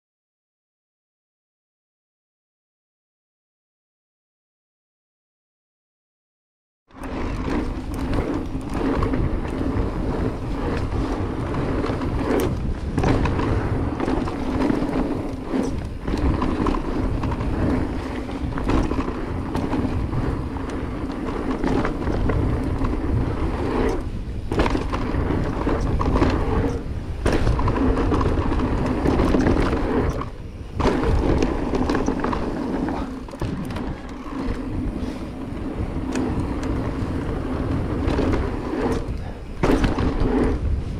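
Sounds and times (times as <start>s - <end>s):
bike rattling over bumps: 6.9s - 40.9s
bike tyres rolling on dirt: 6.9s - 40.9s
wind buffeting microphone: 7.0s - 40.9s.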